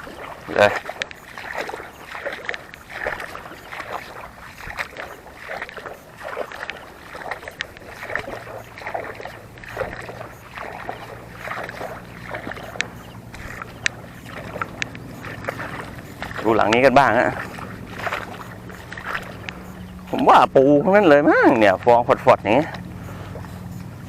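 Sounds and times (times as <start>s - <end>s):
steady low hum: 0.0s - 24.0s
water sloshing: 0.0s - 24.0s.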